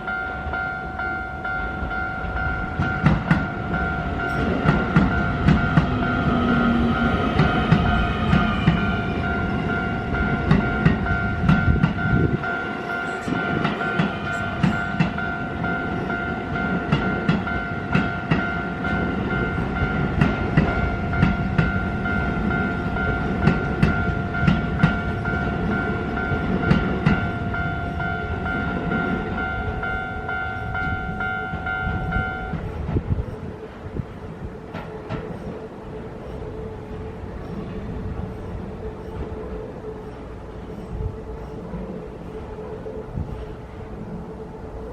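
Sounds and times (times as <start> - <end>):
crossing warning bell ringing: 0.0 - 44.9
low train rumble: 0.0 - 44.9.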